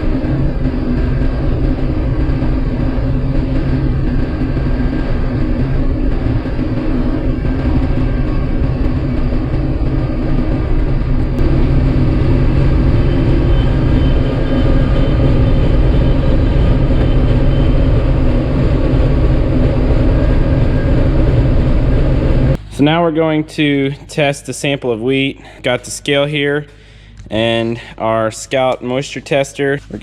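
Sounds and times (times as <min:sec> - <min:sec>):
combine harvester engine drone: 0:00.0 - 0:26.0.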